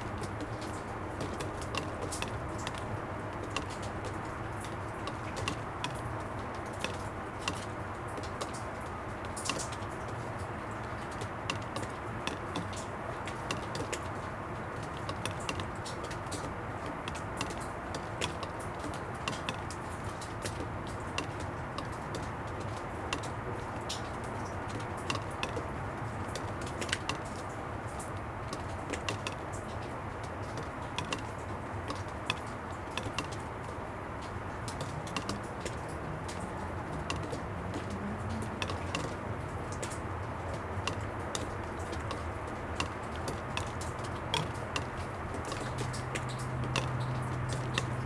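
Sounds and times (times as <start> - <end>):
distant traffic rumble: 0.0 - 48.0
water dripping onto plastic: 0.0 - 48.0.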